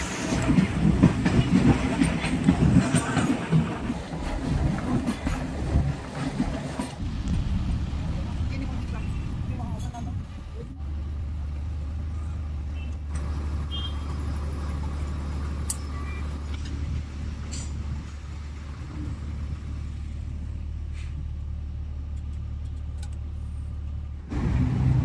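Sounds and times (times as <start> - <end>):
rail car engine drone: 0.0 - 25.0.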